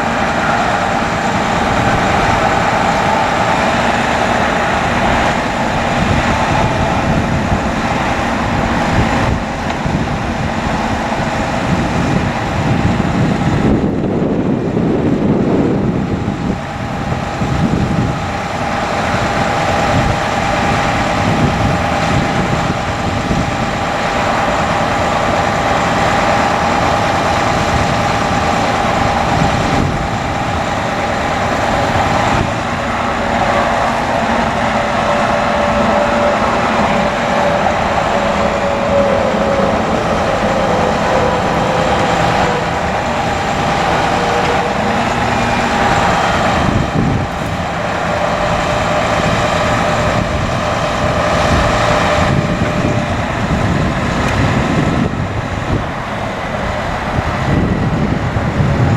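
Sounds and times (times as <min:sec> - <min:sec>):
diesel engine running: 0:00.0 - 0:58.9
hydraulic whine: 0:00.0 - 0:58.9.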